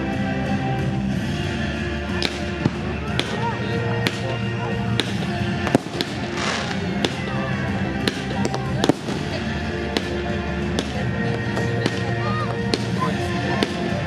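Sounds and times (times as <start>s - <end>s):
music over loudspeakers: 0.0s - 14.0s
firework bangs: 2.0s - 14.0s.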